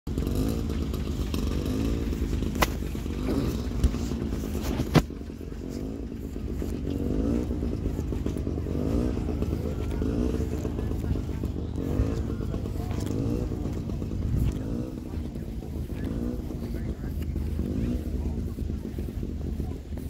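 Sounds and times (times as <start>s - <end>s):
tractor engines running: 0.1s - 20.0s.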